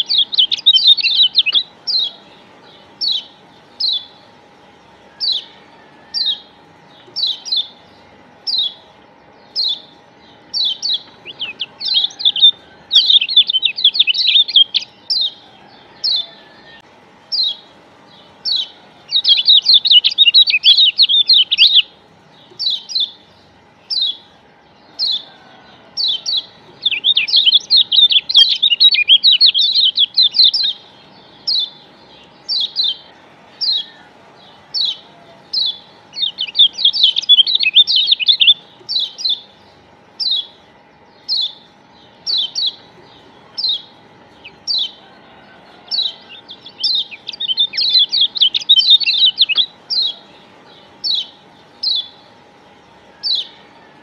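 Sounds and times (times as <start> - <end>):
bird fast chattering: 0.0 - 16.5, 17.2 - 25.4, 26.0 - 53.7
bird chirping calls: 0.0 - 54.0.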